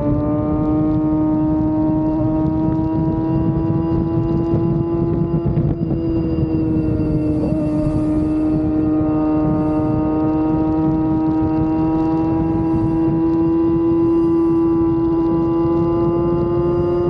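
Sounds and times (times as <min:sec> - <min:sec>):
constant low rumble: 0:00.0 - 0:17.0
motorcycle engine under load: 0:00.0 - 0:17.0.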